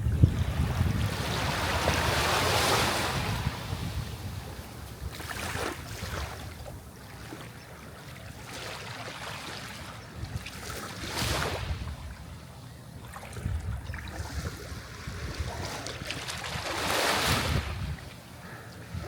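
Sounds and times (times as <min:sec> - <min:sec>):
sea waves breaking on shore: 0:00.0 - 0:12.3, 0:13.0 - 0:18.2
low rumble of surf: 0:00.0 - 0:19.0.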